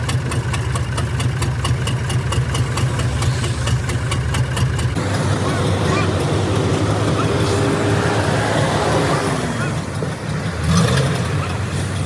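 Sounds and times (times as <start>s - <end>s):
road traffic noise: 0.0s - 12.0s
vehicle engine idling: 0.0s - 12.0s.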